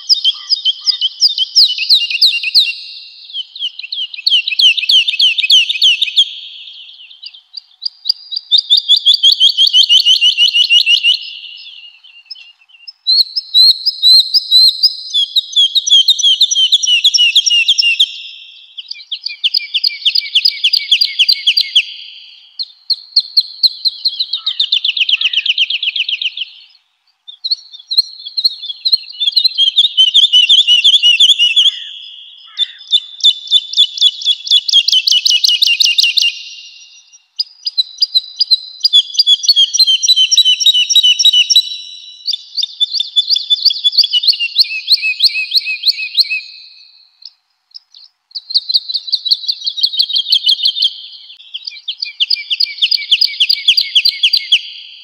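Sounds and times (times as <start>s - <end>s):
woodlark singing: 0.0s - 55.0s.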